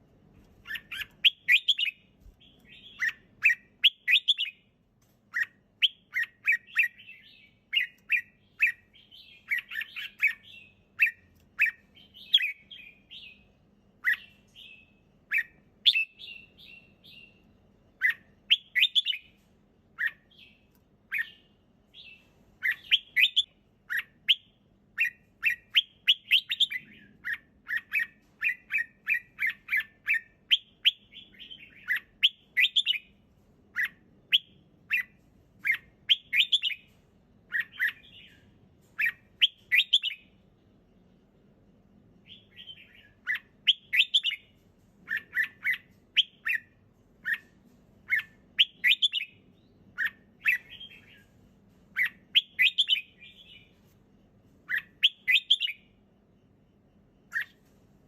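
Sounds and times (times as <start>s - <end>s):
bird chirping song: 0.0s - 58.0s.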